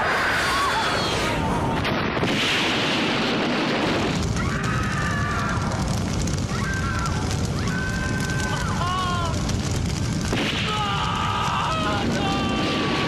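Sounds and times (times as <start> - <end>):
fire rumbling rush: 0.0 - 13.0.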